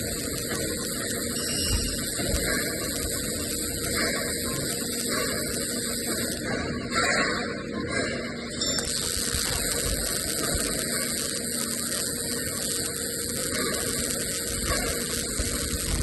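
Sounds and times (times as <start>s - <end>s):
welding arc crackling and buzzing: 0.0s - 16.0s.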